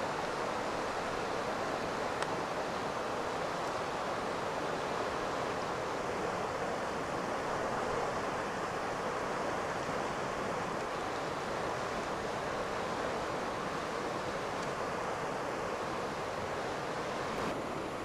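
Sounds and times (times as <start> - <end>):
road and wind noise in car: 0.0 - 18.0.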